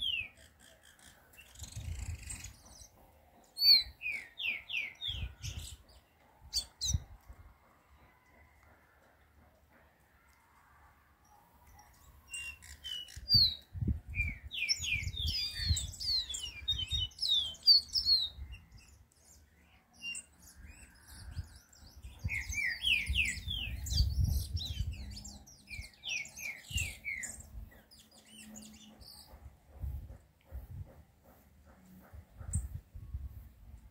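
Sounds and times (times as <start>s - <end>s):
songbird chirping: 0.0s - 33.9s.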